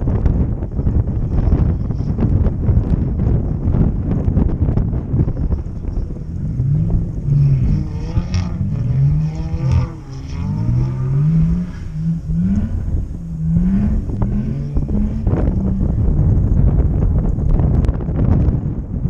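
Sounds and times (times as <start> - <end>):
car engine revving: 0.1 - 18.7.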